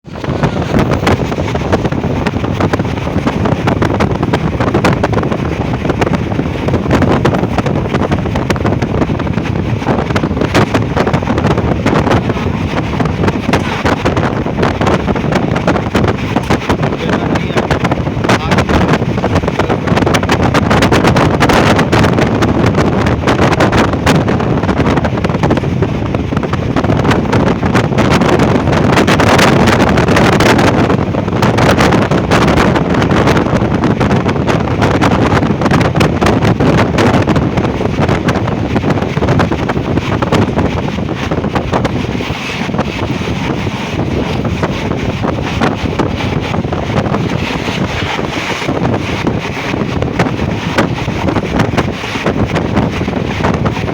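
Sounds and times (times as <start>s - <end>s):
train clattering along track: 0.0s - 53.9s
wind buffeting microphone: 0.0s - 53.9s.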